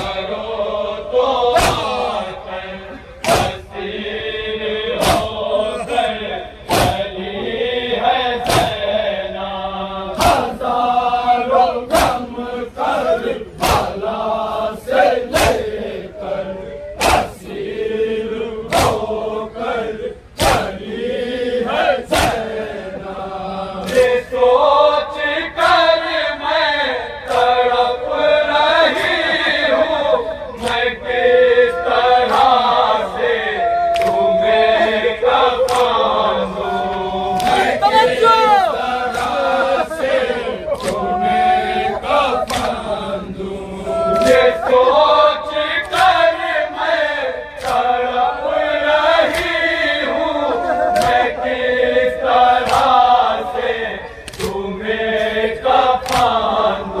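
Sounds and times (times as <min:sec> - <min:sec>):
voices chanting a lament: 0:00.0 - 0:57.0.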